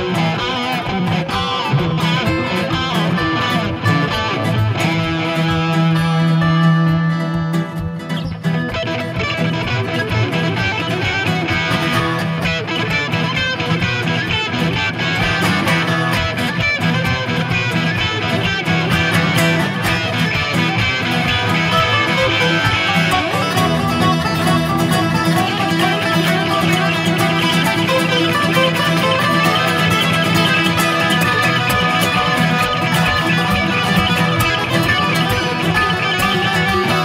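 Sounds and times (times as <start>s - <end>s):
electric guitar: 0.0s - 37.0s.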